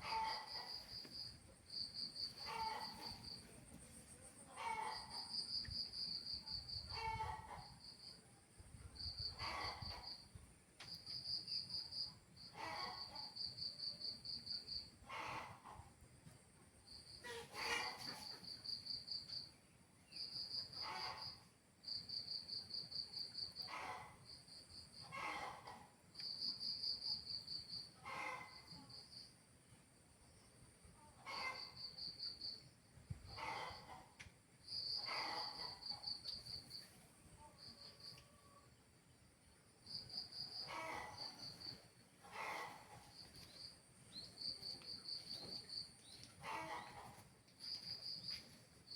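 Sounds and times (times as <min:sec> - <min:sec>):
cricket chirping: 0:00.0 - 0:15.0, 0:16.8 - 0:29.4, 0:30.2 - 0:38.7, 0:39.4 - 0:48.9.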